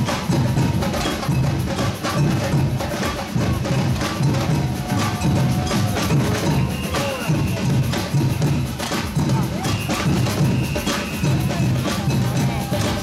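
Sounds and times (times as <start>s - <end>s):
deep drum beats: 0.0s - 13.0s.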